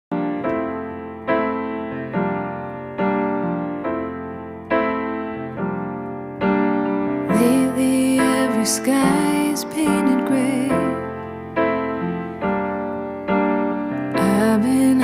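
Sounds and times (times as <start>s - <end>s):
piano chords: 0.1s - 15.0s.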